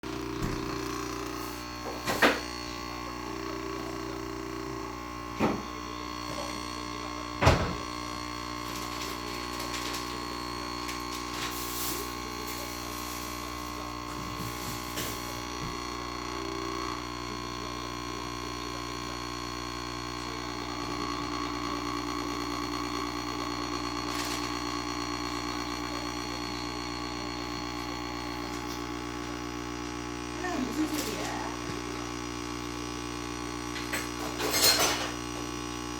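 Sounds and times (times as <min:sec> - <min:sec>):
coffee machine humming: 0:00.0 - 0:35.9.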